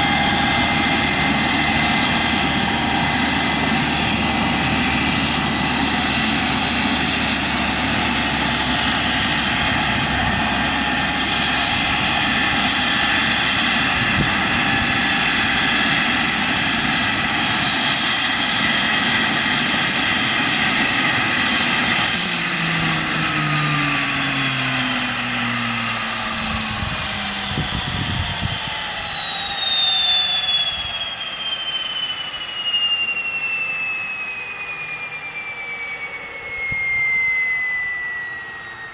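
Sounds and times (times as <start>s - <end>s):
helicopter rotor tones: 0.0s - 38.9s
helicopter turbine whine: 0.0s - 38.9s.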